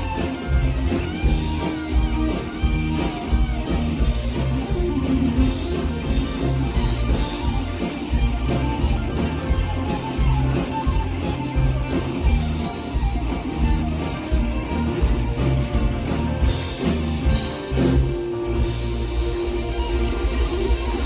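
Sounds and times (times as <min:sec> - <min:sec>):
live country-rock band: 0:00.0 - 0:21.0.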